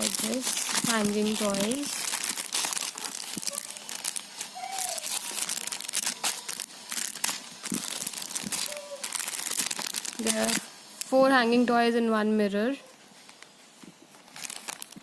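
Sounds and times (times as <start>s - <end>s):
packaging crinkling: 0.0s - 11.2s, 13.2s - 15.0s.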